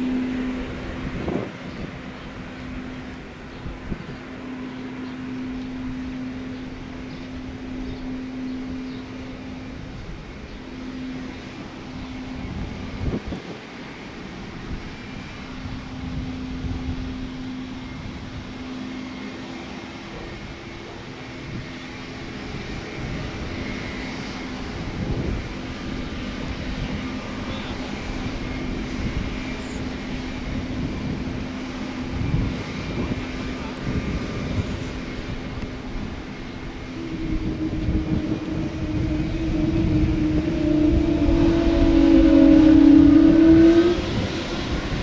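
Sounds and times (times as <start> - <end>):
higher engine tone: 0.0 - 45.0
jet engine whine and rumble: 0.0 - 45.0.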